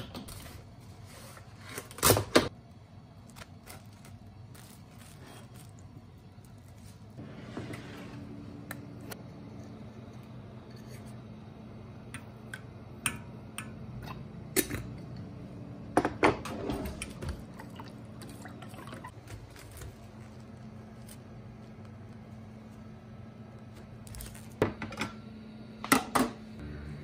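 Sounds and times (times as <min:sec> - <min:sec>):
steady low hum: 0:02.5 - 0:27.0.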